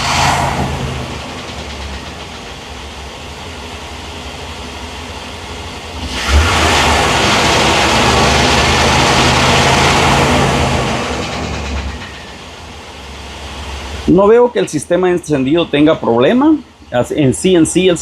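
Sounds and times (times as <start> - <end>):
engine idling and revving: 0.0 - 18.0.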